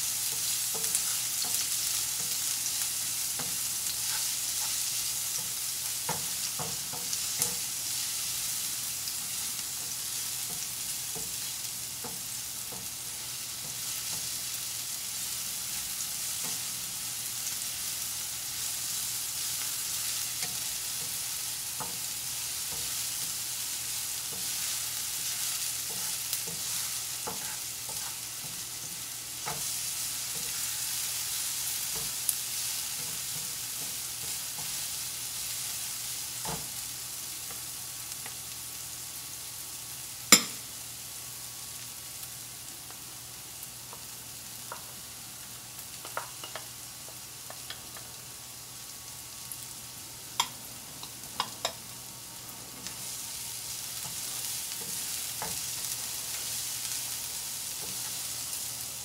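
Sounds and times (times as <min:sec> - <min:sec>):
onion sizzling in a pan: 0:00.0 - 0:59.0.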